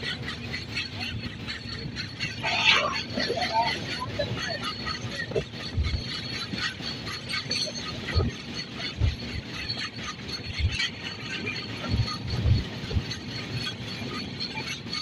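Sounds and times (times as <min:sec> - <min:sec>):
train wheels on track: 0:00.0 - 0:15.0.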